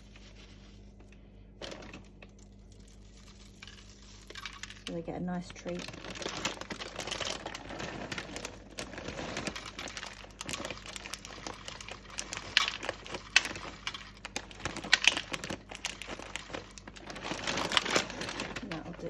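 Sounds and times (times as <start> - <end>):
dry rustling of mealworms: 0.0 - 19.0.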